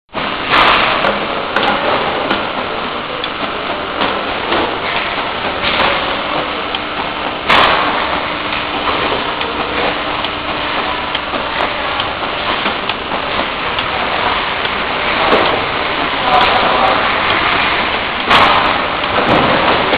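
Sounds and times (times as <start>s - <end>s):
bottling line mechanical din: 0.1s - 19.9s.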